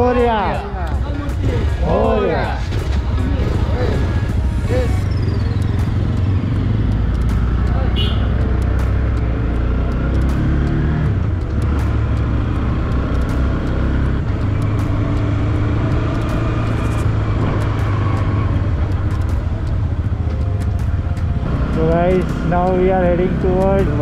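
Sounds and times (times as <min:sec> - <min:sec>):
motorcycle engine running: 0:00.9 - 0:24.0.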